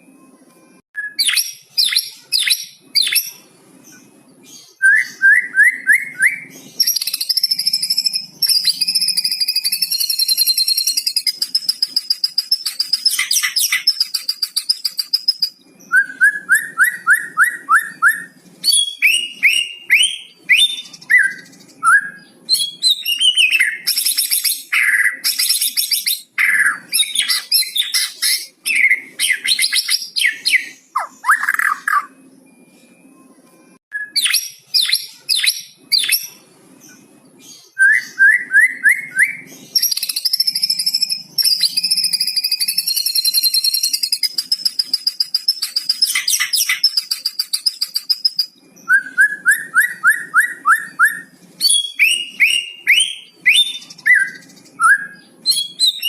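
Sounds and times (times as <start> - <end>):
songbird singing varied song: 1.0 - 32.6, 33.9 - 56.0.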